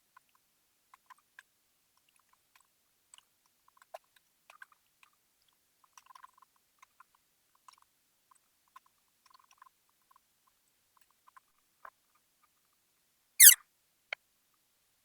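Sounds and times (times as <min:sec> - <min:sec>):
faint small clicks and ticks: 0:00.1 - 0:12.8.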